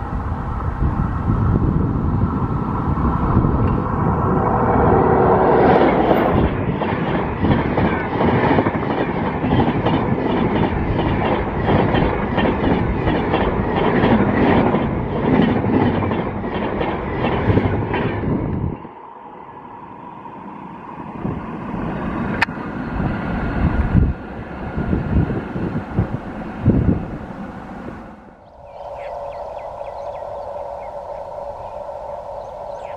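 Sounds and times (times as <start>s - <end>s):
wind gusts on microphone: 0.0s - 18.9s, 19.5s - 32.9s.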